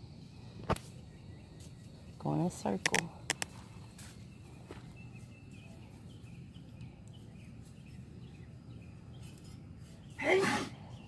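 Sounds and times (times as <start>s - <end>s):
distant bird chirps: 0.0s - 11.0s
faint outdoor ambience: 0.0s - 11.0s.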